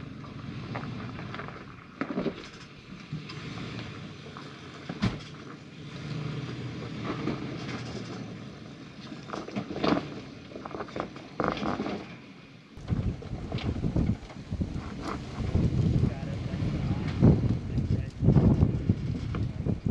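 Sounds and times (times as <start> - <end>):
engine running low hum: 0.0 - 19.9.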